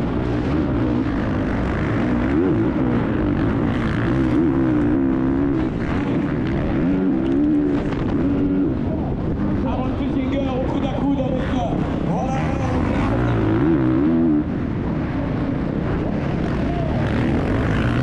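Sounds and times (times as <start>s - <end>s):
motorcycle engine revving: 0.0s - 10.6s, 11.2s - 18.0s
dirt noise: 0.0s - 18.0s
wind noise: 0.0s - 18.0s.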